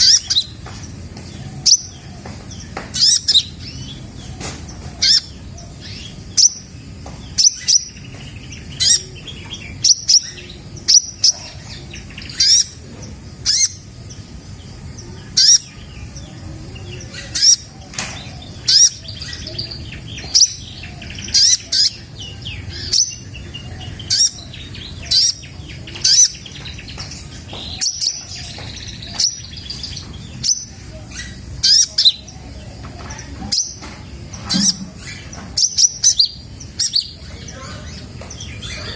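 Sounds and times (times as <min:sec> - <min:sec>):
bird chirping high-pitched: 0:00.0 - 0:38.9.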